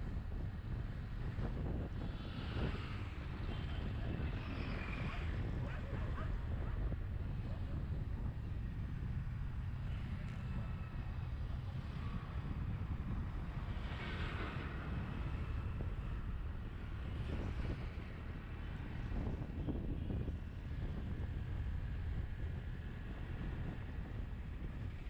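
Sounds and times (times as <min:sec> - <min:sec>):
road and traffic noise: 0:00.0 - 0:25.0
wind buffeting microphone: 0:00.0 - 0:25.0.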